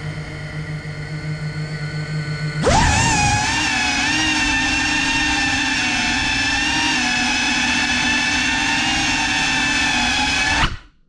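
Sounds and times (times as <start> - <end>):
drone motors and propellers whining: 0.0 - 10.8.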